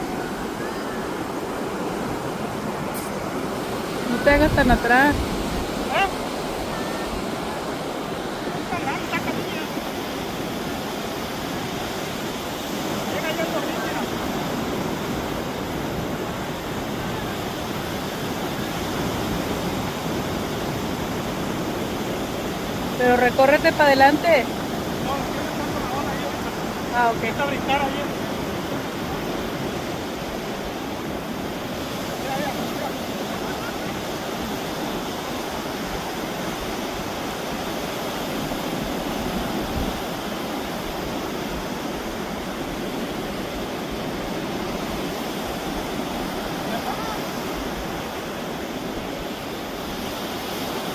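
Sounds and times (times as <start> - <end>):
sea surf: 0.0 - 50.9
wind: 0.0 - 50.9.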